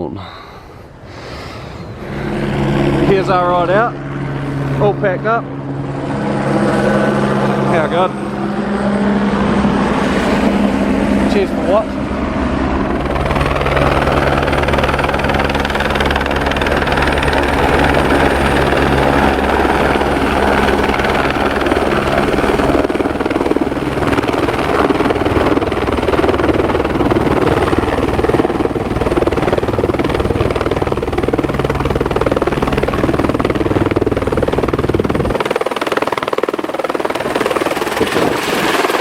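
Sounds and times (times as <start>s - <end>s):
helicopter engine and rotor: 1.7s - 39.0s.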